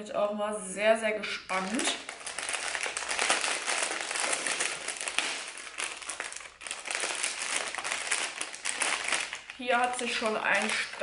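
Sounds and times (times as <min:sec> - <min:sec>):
plastic packaging crinkling: 0:01.5 - 0:11.0.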